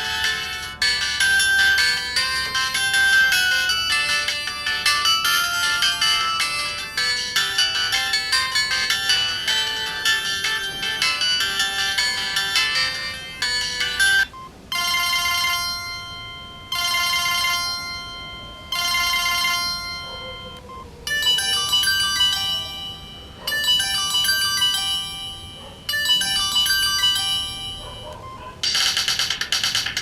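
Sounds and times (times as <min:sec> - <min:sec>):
mobile phone ringtones: 0:00.0 - 0:30.0.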